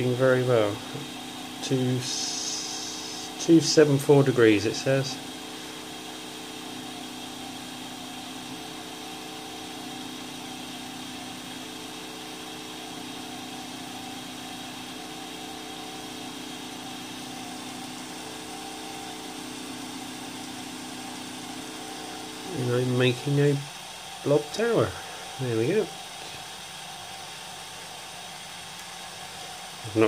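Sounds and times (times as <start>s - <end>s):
stepper motor humming: 0.0s - 30.0s.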